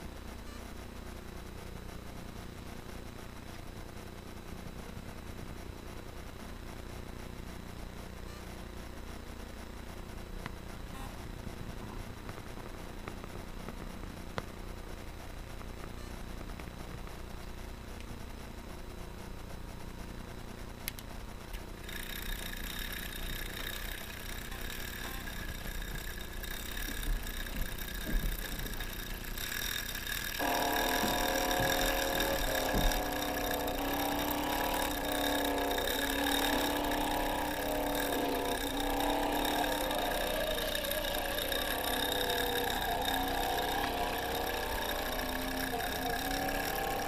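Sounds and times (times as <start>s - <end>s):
high-pitched electric motor whine: 0.0s - 47.0s
lower wavering whir: 0.0s - 47.0s.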